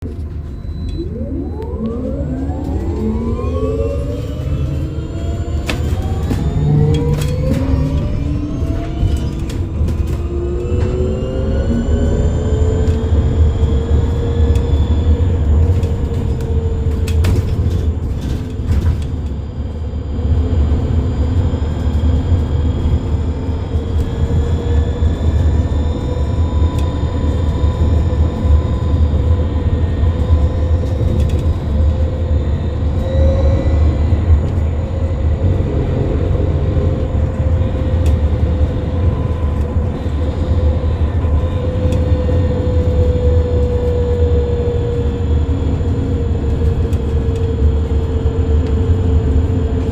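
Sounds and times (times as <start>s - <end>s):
low road rumble: 0.0s - 49.9s.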